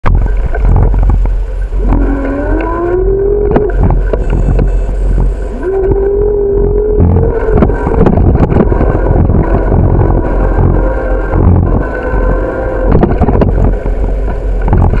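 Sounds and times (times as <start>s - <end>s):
bicycle rumbling over asphalt: 0.0s - 15.0s
humming tone: 0.0s - 15.0s.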